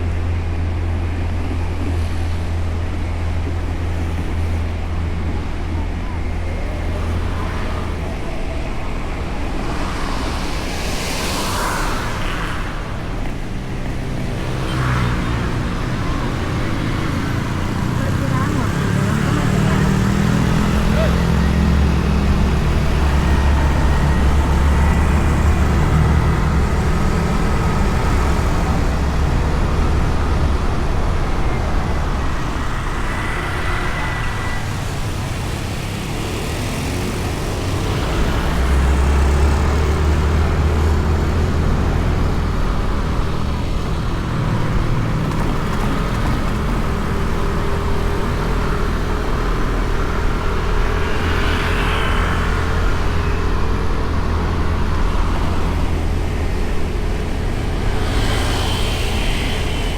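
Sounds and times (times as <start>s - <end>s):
passing traffic: 0.0s - 59.9s
scooter engine and road rumble: 0.0s - 59.9s
wind: 0.0s - 59.9s.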